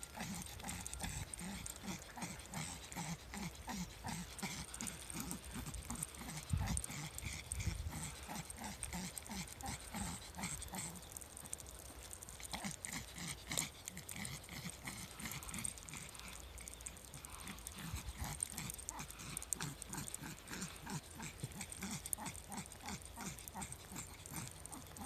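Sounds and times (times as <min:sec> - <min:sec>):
small dog panting: 0:00.0 - 0:25.0.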